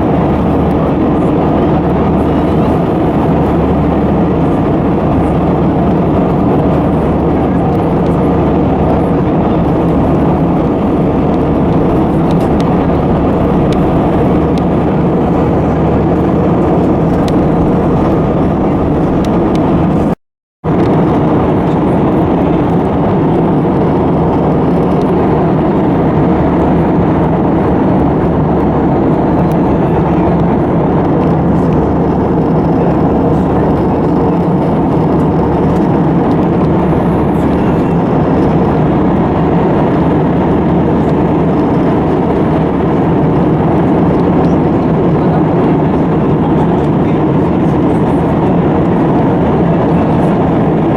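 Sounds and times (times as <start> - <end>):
jet engines roaring: 0.0 - 50.9
rushing air: 0.0 - 50.9.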